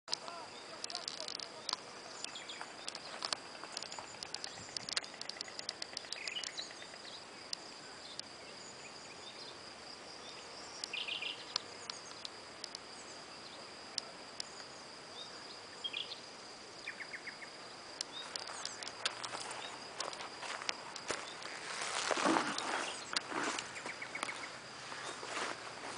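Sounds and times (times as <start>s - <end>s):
birds chirping and trilling: 0.1s - 25.5s.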